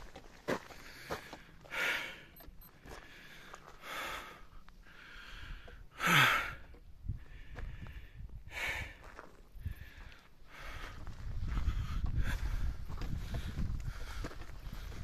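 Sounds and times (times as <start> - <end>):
person breathing hard: 0.6 - 15.0.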